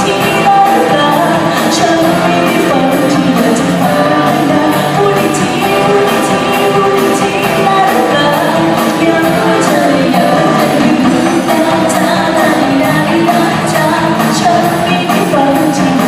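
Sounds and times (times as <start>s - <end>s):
pop band with singer: 0.0s - 16.0s.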